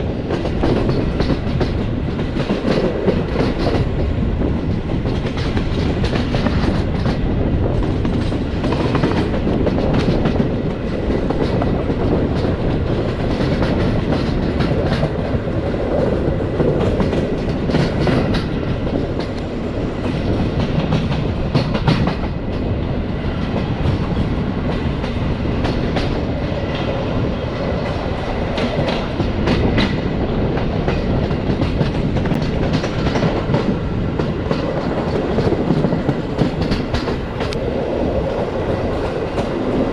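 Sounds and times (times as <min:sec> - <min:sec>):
train carriage rumble: 0:00.0 - 0:39.9
wheels clacking over rail joints: 0:00.0 - 0:39.9.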